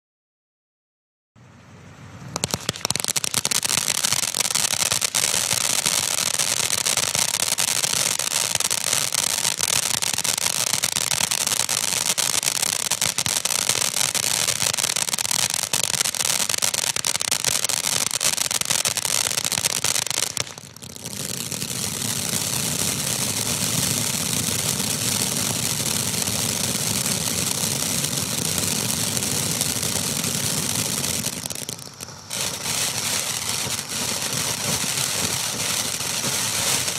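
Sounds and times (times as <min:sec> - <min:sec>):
firework fountain hissing and crackling: 0:02.3 - 0:36.9.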